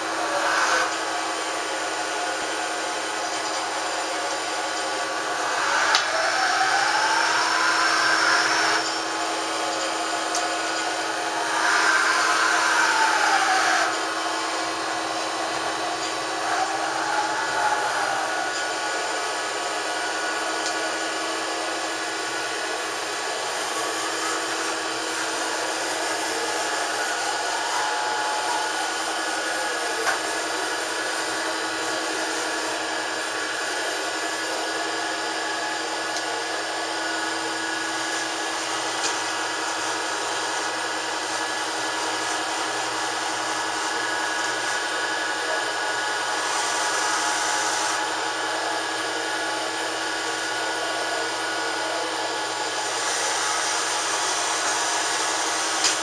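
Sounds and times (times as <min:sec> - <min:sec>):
machine whirring hum: 0:00.0 - 0:56.0.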